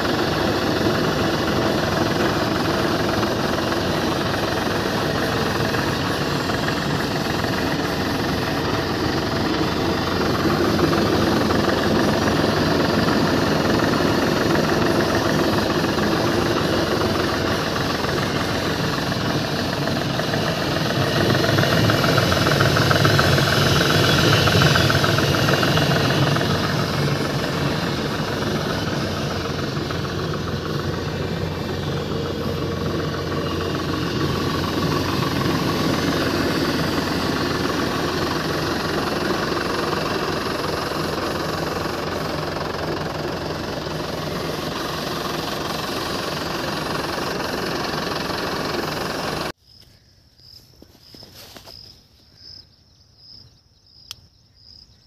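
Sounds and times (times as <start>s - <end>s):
tractor diesel engine running: 0.0s - 49.6s.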